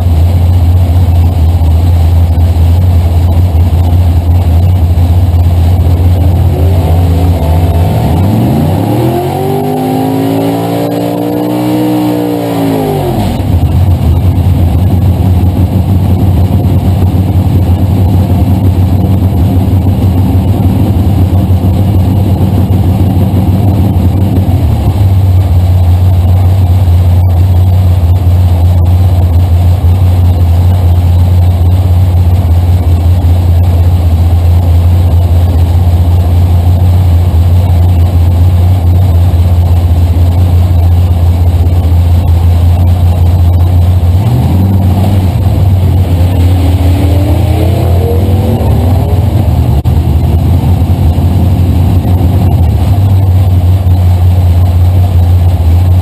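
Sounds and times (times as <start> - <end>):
car engine idling loudly: 0.0 - 56.0.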